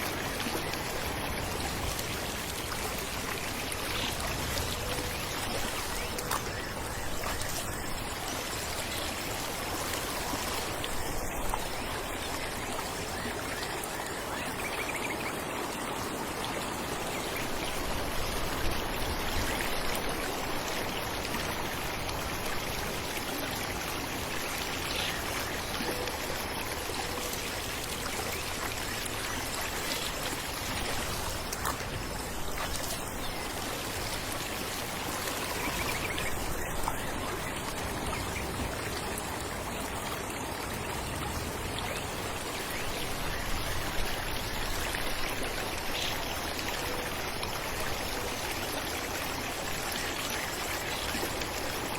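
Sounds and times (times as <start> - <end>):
falling water splashing: 0.0 - 51.9.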